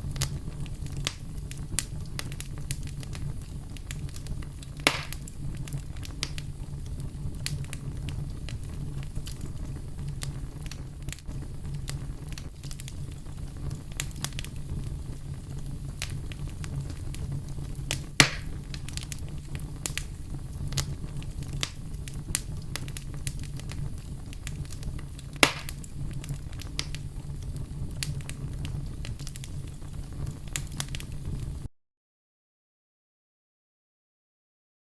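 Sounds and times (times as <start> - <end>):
wood fire crackling: 0.0 - 31.7.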